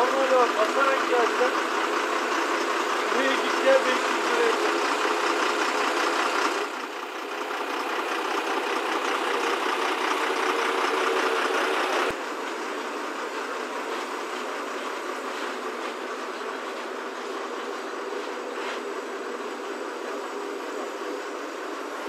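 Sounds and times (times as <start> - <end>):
steady hydraulic hum: 0.0 - 22.0
truck engine running: 0.0 - 22.0.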